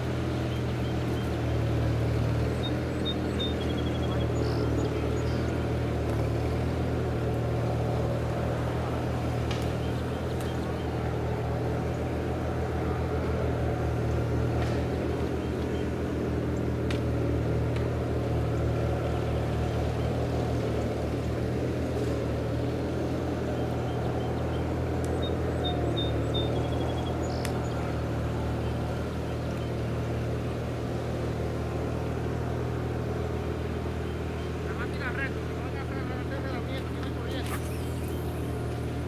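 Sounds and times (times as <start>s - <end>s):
engine droning: 0.0s - 39.0s.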